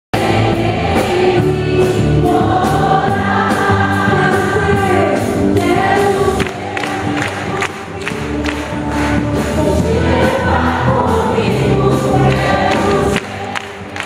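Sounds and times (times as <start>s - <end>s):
group singing worship song: 0.2s - 14.0s.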